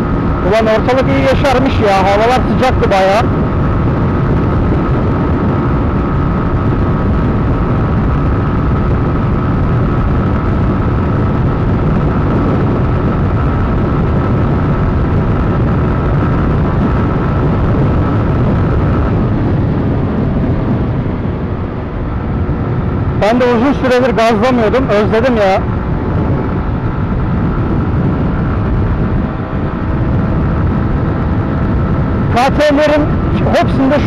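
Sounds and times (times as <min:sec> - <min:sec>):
motorcycle engine running hard: 0:00.0 - 0:34.0
wind rush on microphone: 0:00.0 - 0:34.0.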